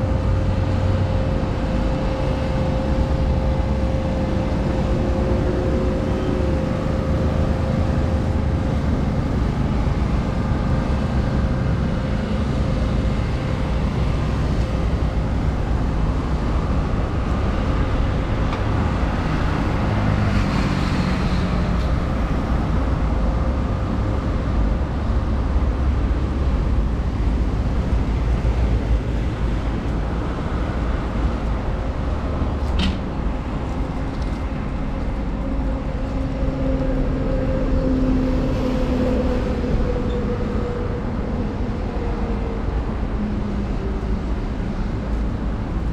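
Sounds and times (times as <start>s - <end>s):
constant hum: 0.0s - 45.9s
road traffic noise: 0.0s - 45.9s.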